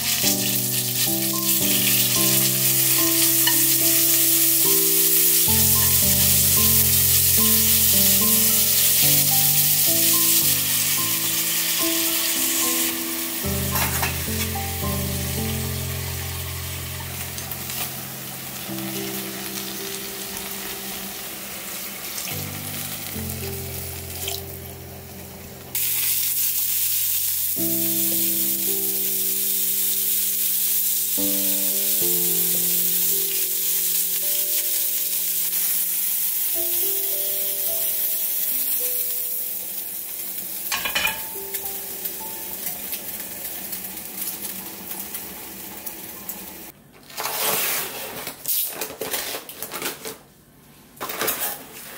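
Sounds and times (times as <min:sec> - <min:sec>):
oil sizzling as food fries: 0:00.0 - 0:46.7.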